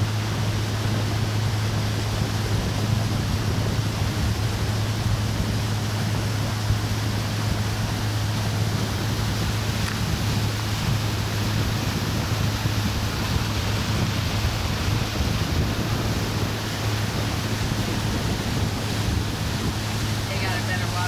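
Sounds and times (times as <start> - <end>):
boat engine droning: 0.0 - 21.0
rush of wind and water: 0.0 - 21.0.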